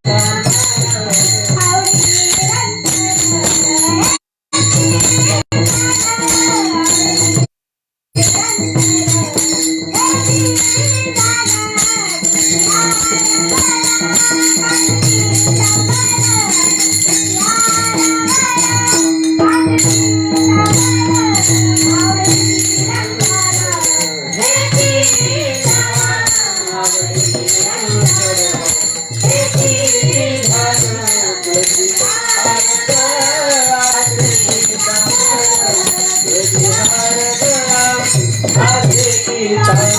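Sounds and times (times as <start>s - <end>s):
drum beats: 0.0s - 7.5s, 8.2s - 39.9s
jingling percussion: 0.0s - 7.5s, 8.1s - 39.9s
woman singing devotional song: 0.0s - 7.5s, 8.2s - 39.9s.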